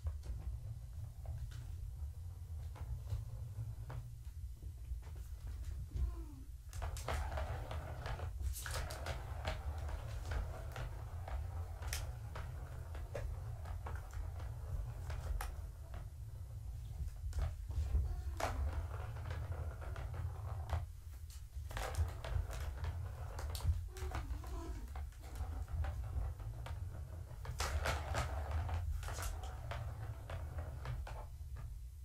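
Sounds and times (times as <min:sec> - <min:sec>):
ball rattling in plastic track: 0:00.0 - 0:05.9, 0:06.7 - 0:32.0.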